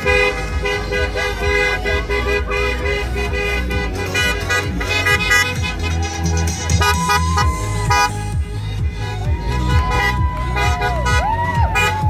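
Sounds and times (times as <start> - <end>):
car horns honking: 0.0 - 12.0.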